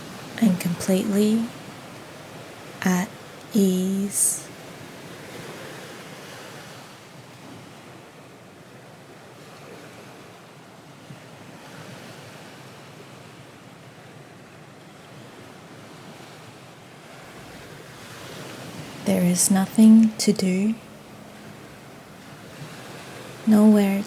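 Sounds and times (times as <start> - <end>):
ocean waves washing ashore: 0.0 - 24.0.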